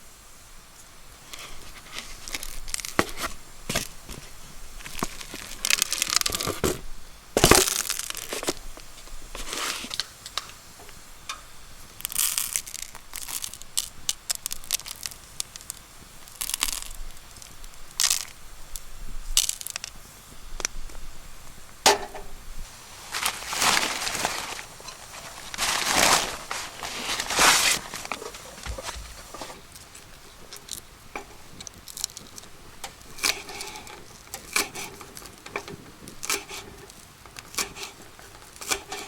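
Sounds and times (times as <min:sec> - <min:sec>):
crinkling handling noises: 0:00.8 - 0:39.0.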